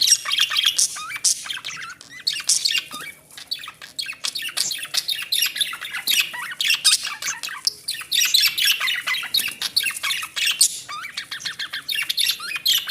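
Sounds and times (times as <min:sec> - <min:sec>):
budgerigars chattering and squawking: 0:00.0 - 0:12.9.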